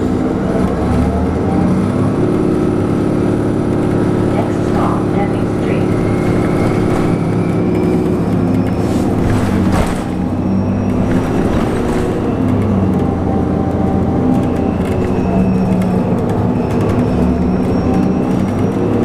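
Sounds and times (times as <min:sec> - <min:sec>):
bus drivetrain hum: 0:00.0 - 0:19.0.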